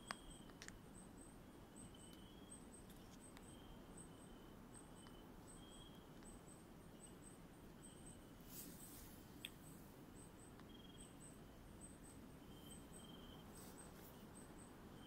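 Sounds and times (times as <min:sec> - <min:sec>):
insects chirping: 0:00.0 - 0:15.0
low single insect notes: 0:00.0 - 0:15.0
rustle: 0:00.0 - 0:15.0.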